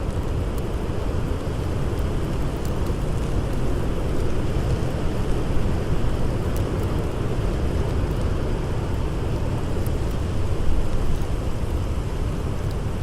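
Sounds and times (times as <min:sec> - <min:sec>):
blizzard wind blowing hard: 0:00.0 - 0:13.0
faint fire crackles: 0:00.0 - 0:13.0.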